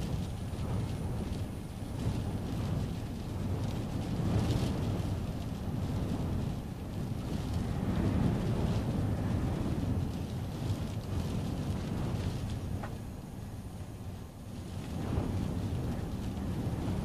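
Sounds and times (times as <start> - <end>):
storm wind gusting against car: 0.0 - 17.0.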